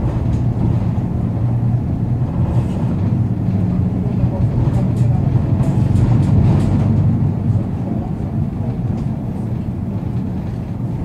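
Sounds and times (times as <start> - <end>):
diesel bus engine droning: 0.0 - 11.0.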